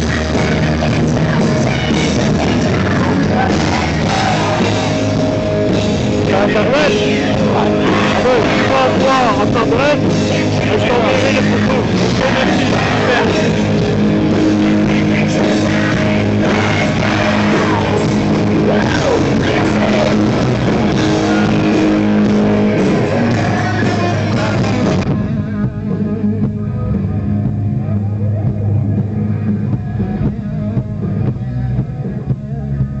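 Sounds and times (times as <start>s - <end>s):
loud rock music: 0.0s - 33.0s.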